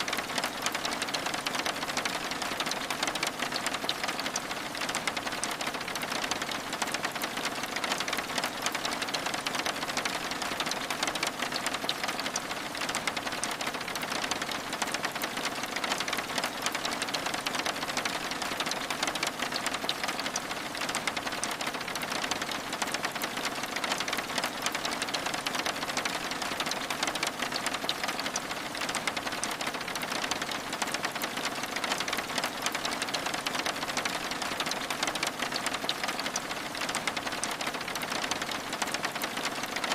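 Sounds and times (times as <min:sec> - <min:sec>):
rain on window glass: 0:00.0 - 0:39.9.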